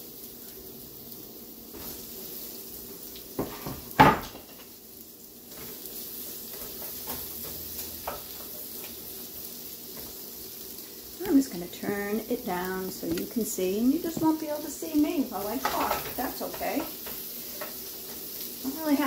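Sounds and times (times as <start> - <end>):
peppers sizzling in a frying pan: 0.0 - 19.0
wooden spoon stirring in pan: 1.7 - 4.8, 5.4 - 19.0.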